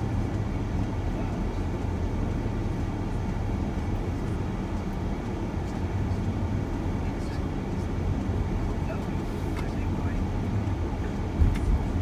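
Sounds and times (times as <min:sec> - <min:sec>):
tyres on road: 0:00.0 - 0:12.0
van engine rumbling inside cabin: 0:00.0 - 0:12.0.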